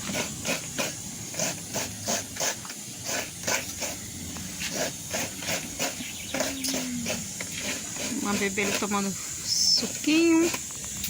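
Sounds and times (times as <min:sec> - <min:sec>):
coconut grating scrapes: 0:00.0 - 0:11.0.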